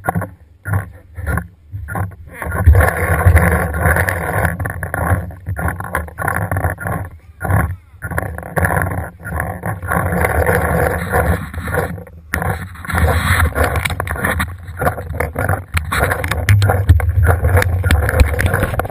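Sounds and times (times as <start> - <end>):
sharp clicks and knocks: 0.0 - 18.9.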